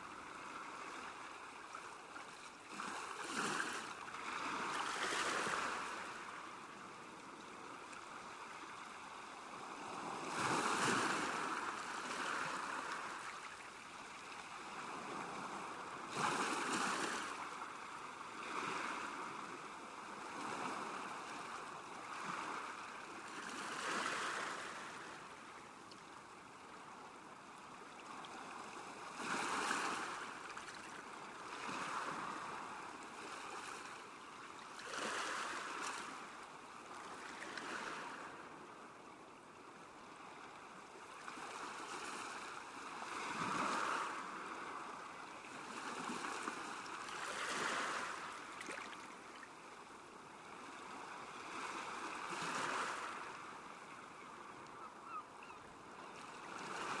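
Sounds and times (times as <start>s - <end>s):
lake waves lapping at shore: 0.0s - 26.9s, 27.6s - 38.6s, 40.2s - 57.0s.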